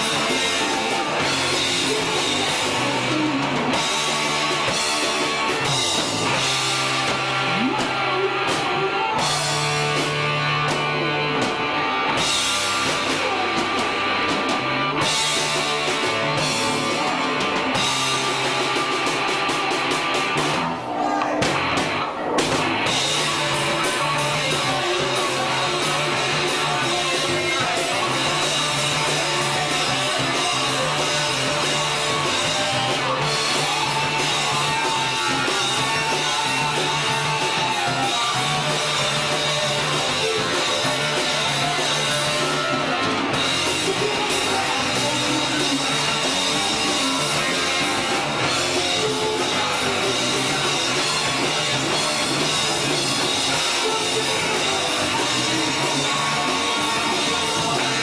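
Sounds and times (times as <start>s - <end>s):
bass: 0.0s - 58.0s
drum kit: 0.0s - 58.0s
electric guitar: 0.0s - 58.0s.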